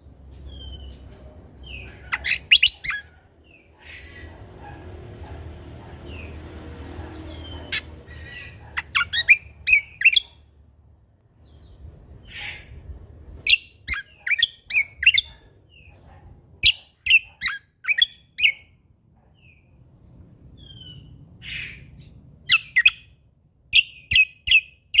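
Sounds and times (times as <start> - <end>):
songbird rapid chirping: 0.0 - 10.5, 13.4 - 25.0.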